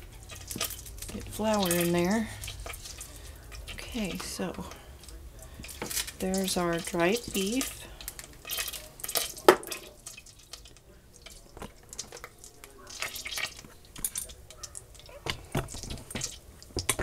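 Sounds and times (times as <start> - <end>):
butter bubbling in a saucepan: 0.0 - 17.0.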